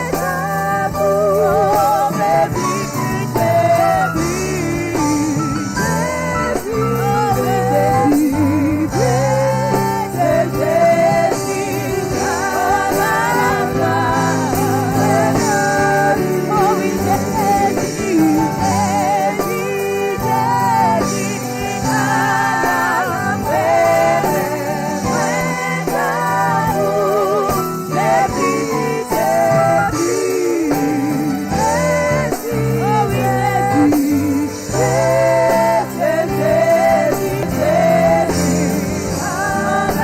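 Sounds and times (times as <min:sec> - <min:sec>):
bass line: 0:00.0 - 0:40.0
gospel singing: 0:00.0 - 0:40.0.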